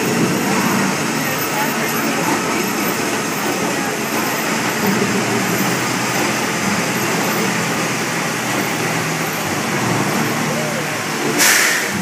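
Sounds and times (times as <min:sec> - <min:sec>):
tram rumbling along: 0:00.0 - 0:12.0.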